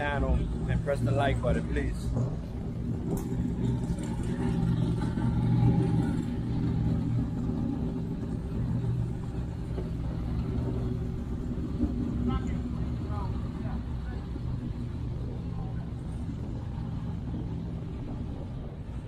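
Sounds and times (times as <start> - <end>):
low engine rumble: 0.0 - 19.0
tyre road noise: 0.0 - 19.0.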